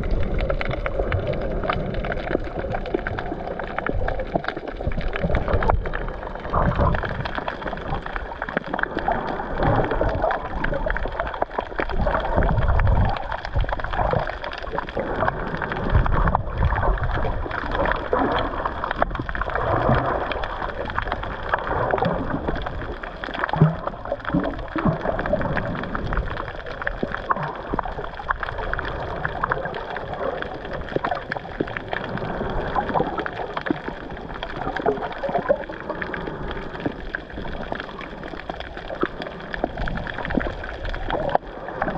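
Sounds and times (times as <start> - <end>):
muffled water sloshing and gurgling: 0.0 - 41.9.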